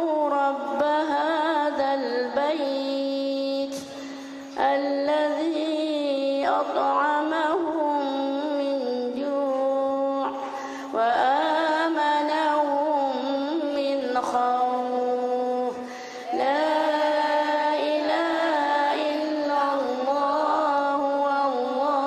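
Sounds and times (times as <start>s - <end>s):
woman reciting melodically: 0.0s - 22.0s.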